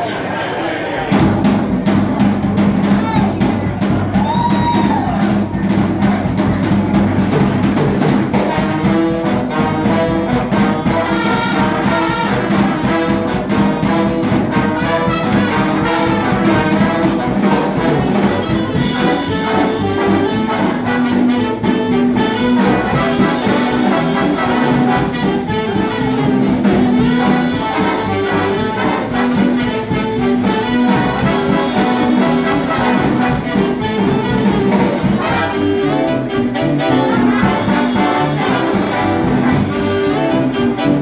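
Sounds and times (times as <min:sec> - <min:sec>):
big band jazz: 0:00.0 - 0:41.0.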